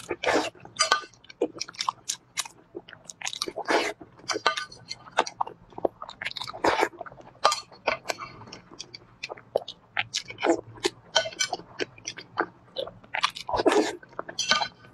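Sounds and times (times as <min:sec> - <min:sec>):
person chewing with wet smacks: 0:00.0 - 0:14.9.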